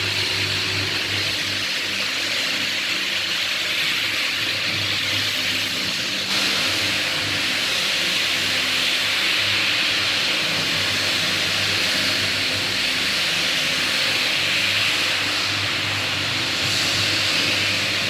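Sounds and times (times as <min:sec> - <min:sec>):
floor buffer sanding: 0:00.0 - 0:18.0.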